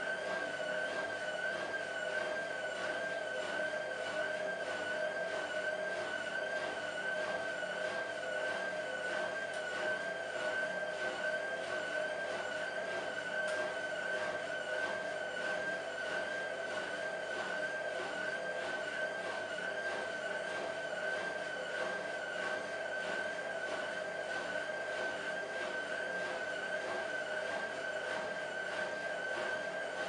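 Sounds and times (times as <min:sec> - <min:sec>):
washing machine spin whine: 0:00.0 - 0:30.0.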